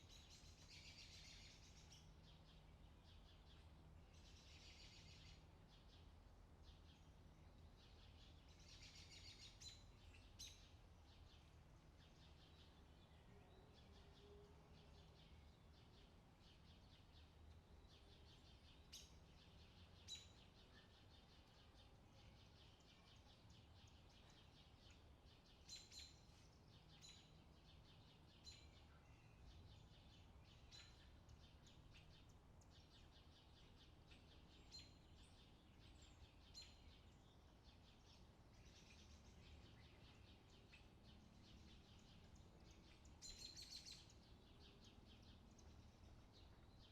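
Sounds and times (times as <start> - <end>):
low steady background hum: 0.0 - 46.9.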